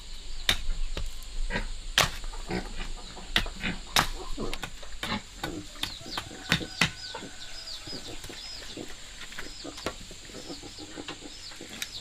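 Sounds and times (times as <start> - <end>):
chickens clucking: 0.4 - 12.0.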